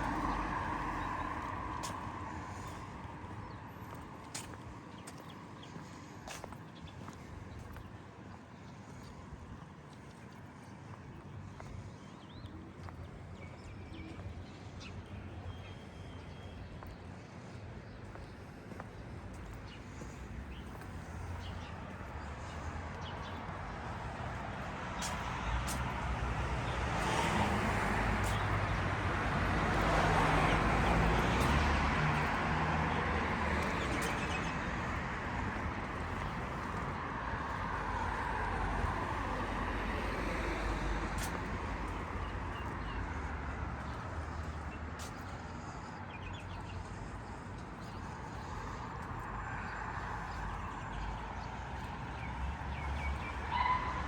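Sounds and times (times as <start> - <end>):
low road rumble: 0.0 - 54.0
vehicles passing: 0.0 - 54.0.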